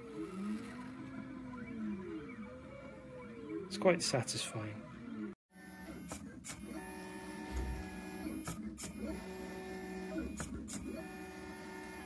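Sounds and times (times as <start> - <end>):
stepper motors whining: 0.0 - 3.9, 4.8 - 12.0.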